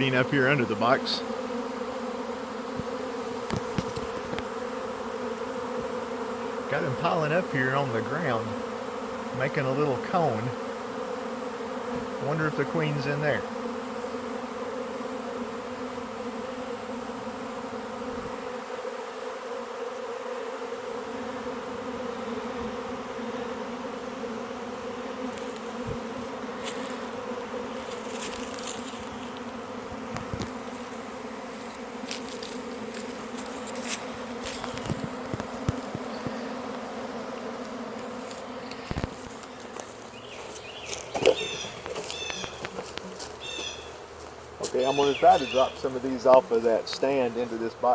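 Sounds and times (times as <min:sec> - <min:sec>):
bee swarm buzzing: 0:00.0 - 0:47.9.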